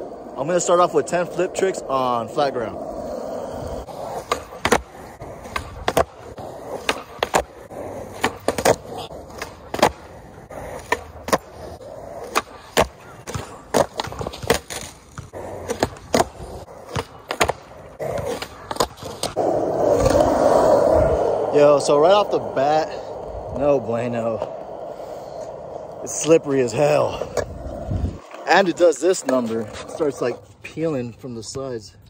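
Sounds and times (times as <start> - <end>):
skateboard tricks clacking: 0.0 - 30.5
skateboard wheels rolling: 0.0 - 31.9.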